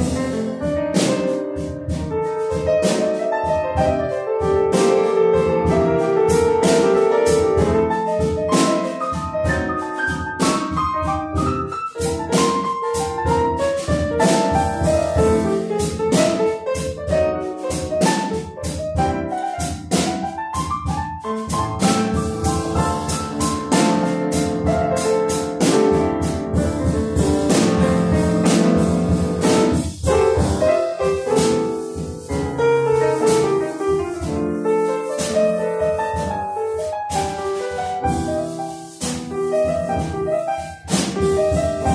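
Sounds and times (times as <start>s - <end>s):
drum kit keeping time: 0.0s - 41.9s
jazz piano playing: 0.0s - 41.9s.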